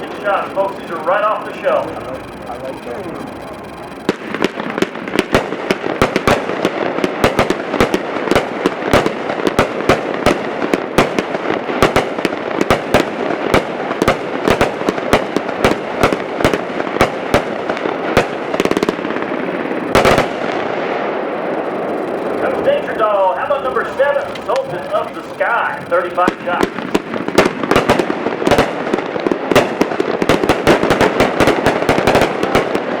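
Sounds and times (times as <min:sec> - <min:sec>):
firework cake firing: 0:00.0 - 0:33.0.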